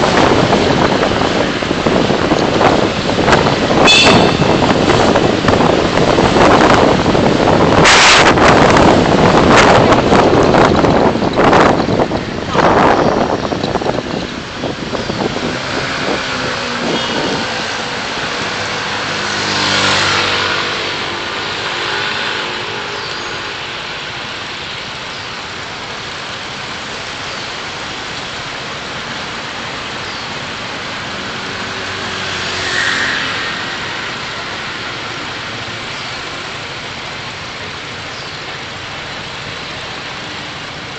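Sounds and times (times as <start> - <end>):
tyre and road noise: 0.0 - 40.9
vehicle engine hum: 0.0 - 40.9.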